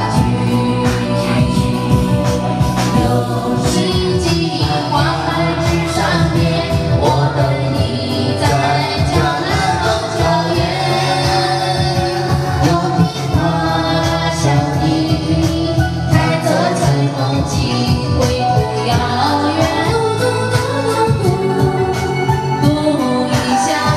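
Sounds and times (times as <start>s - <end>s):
pop backing track: 0.0s - 23.9s
woman singing karaoke: 0.0s - 23.9s.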